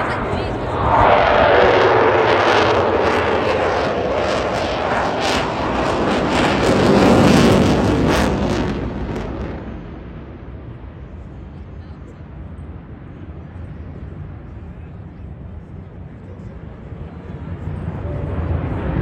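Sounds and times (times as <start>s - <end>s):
crackling jet engine roar: 0.0s - 19.0s.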